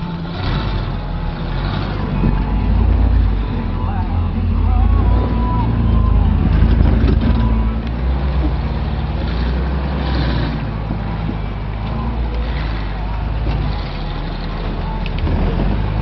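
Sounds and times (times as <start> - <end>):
tyre and trail noise: 0.0 - 16.0
vehicle engine running at low revs: 0.0 - 16.0.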